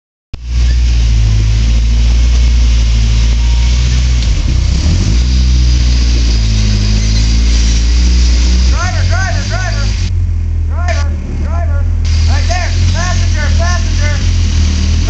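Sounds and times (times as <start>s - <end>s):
buggy engine under load: 0.4s - 15.0s.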